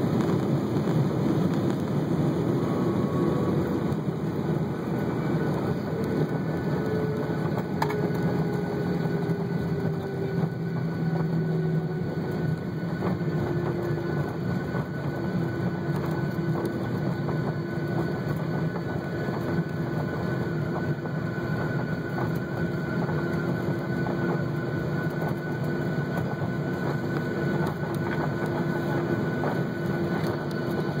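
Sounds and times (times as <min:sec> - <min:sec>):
jet engines humming and whining: 0:00.0 - 0:31.0.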